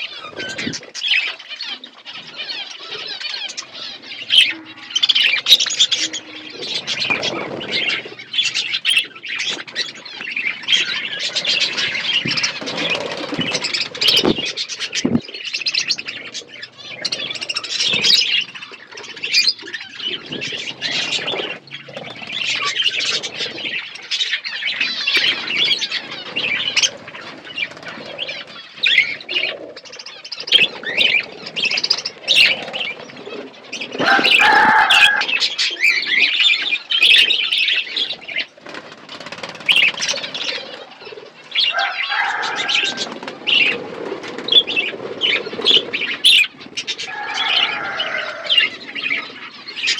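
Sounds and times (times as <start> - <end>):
budgerigars chattering: 0.0 - 43.8, 44.5 - 49.9.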